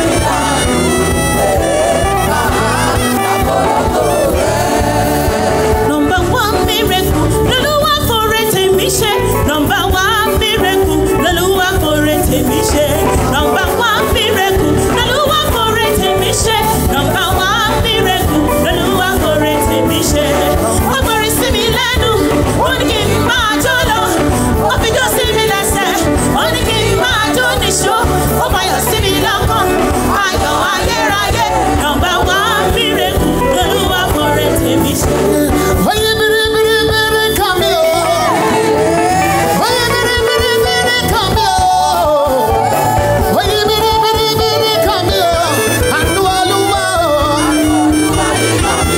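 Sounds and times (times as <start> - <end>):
gospel singing with instruments: 0.0 - 48.9.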